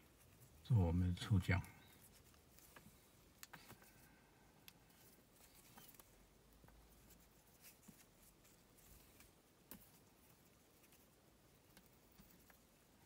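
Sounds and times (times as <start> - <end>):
cord rustling and ticking: 0.0 - 13.0.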